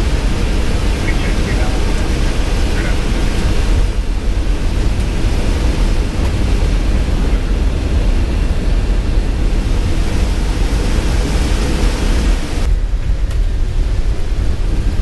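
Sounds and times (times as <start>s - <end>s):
jet engines and airflow: 0.0s - 15.0s.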